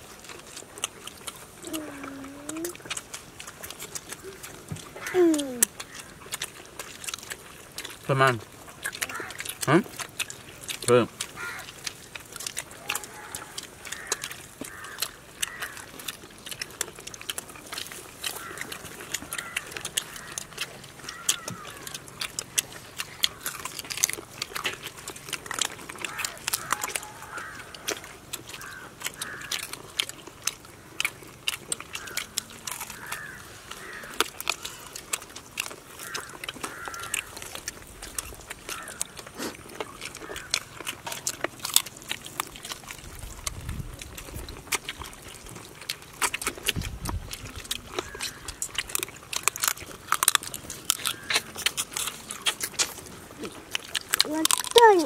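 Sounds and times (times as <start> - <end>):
people chewing and crunching: 0.0 - 55.0.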